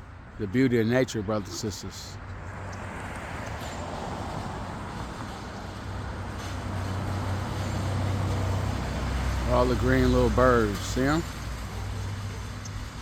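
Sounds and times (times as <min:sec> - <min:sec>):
vehicle rushing noise: 0:02.5 - 0:13.0.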